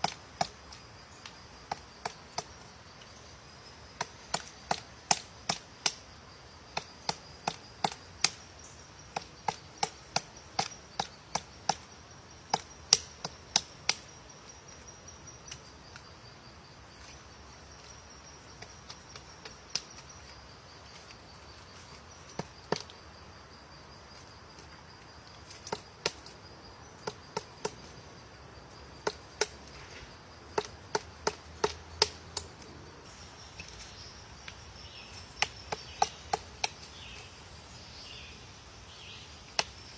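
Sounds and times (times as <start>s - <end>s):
woodpecker pecking wood: 0.0s - 8.4s, 9.1s - 16.2s, 16.8s - 23.3s, 24.0s - 32.7s, 33.6s - 37.3s
high insect buzz: 0.0s - 39.9s.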